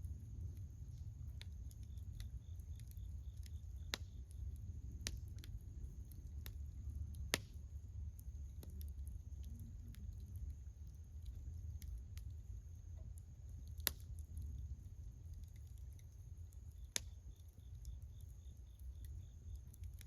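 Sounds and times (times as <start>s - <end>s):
bonfire crackling and popping: 0.0s - 20.0s
low steady rumble: 0.0s - 20.0s.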